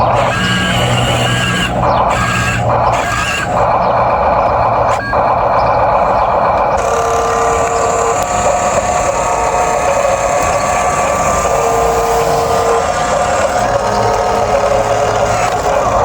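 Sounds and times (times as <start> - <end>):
lower motor tone: 0.0 - 16.0
small electric motors whining: 0.0 - 16.0.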